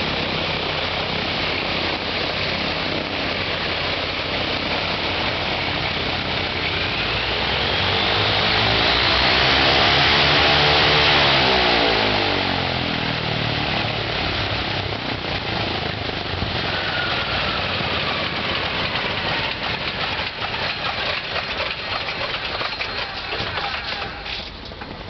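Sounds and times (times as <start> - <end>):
propeller winding down with knocks: 0.0 - 25.0
radial engine shutting down: 0.0 - 25.0.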